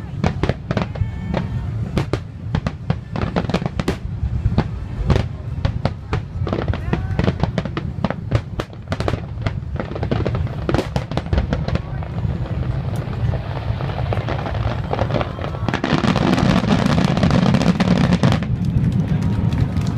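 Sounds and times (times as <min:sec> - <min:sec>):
fireworks cracking and popping: 0:00.0 - 0:19.9
fireworks rumble: 0:00.0 - 0:19.9.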